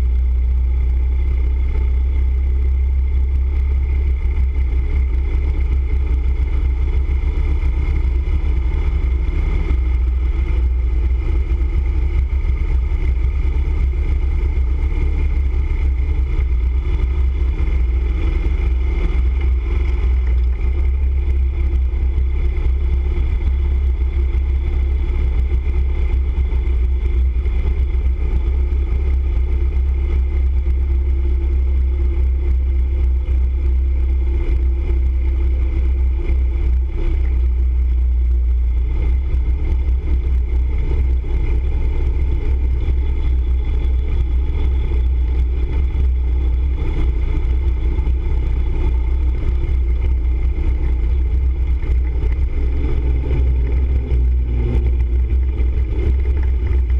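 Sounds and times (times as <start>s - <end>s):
low wind rumble: 0.0s - 56.9s
motorcycle engine running: 0.0s - 56.9s.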